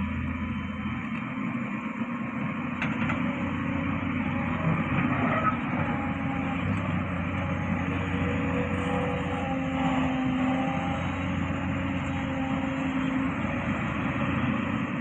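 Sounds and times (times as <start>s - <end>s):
heavy machinery diesel engines: 0.0s - 15.0s.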